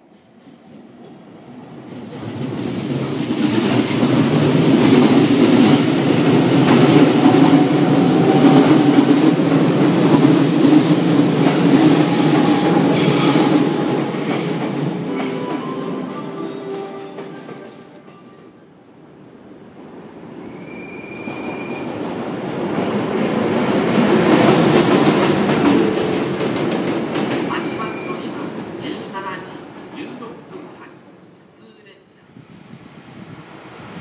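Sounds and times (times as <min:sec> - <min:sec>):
electric train passing: 0:00.6 - 0:34.0.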